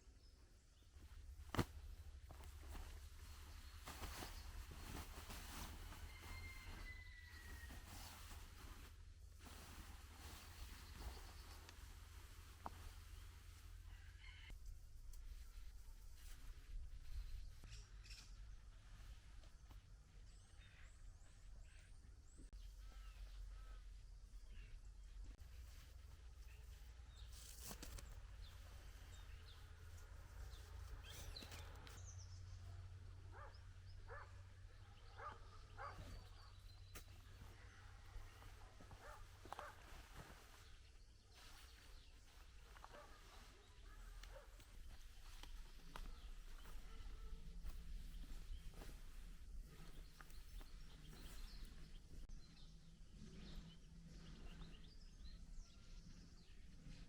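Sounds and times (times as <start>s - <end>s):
faint outdoor ambience: 0.0s - 57.0s
faint bird chirps: 2.3s - 14.6s, 15.3s - 57.0s.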